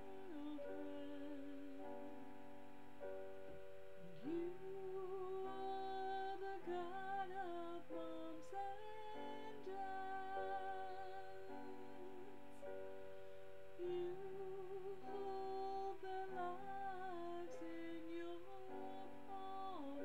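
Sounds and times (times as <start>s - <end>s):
woman singing: 0.0s - 2.3s, 4.0s - 12.7s, 13.8s - 20.0s.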